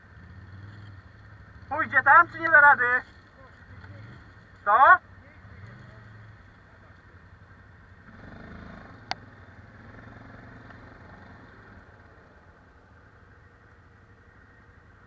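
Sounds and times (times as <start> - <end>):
atv engines running: 0.0 - 15.0.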